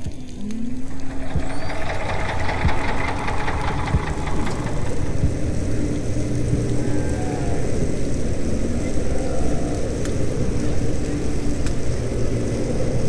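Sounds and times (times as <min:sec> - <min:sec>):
underwater boat engine hum: 0:00.4 - 0:13.0.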